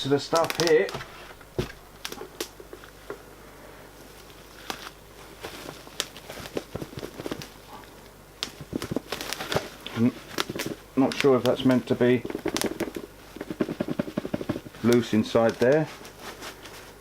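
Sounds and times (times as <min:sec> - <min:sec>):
plastic packaging rustling: 0:00.0 - 0:03.3, 0:04.0 - 0:17.0.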